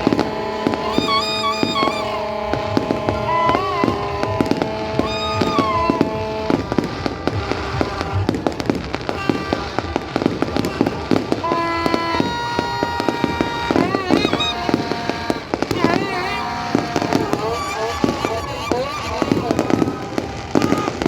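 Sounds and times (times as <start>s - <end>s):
fireworks bangs and crackles: 0.0s - 21.0s
music with sliding notes: 0.0s - 21.0s.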